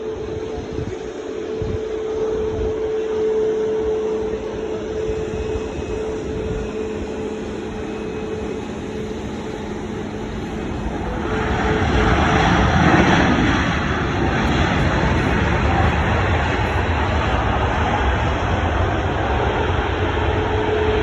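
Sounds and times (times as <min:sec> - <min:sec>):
jet airliner engines rushing: 0:00.0 - 0:21.0.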